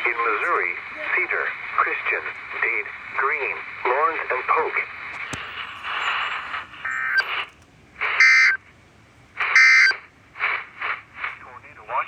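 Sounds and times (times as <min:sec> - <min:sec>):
radio static: 0:00.0 - 0:08.6, 0:09.4 - 0:12.0.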